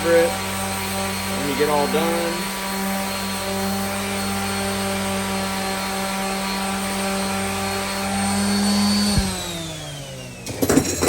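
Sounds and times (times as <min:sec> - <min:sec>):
palm sander running: 0:00.0 - 0:11.0.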